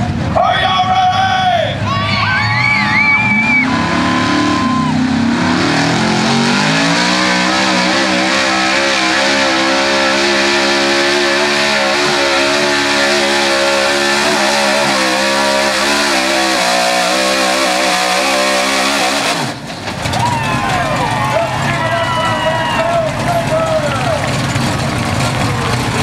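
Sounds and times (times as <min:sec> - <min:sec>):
truck engine revving at full throttle: 0:02.5 - 0:26.0.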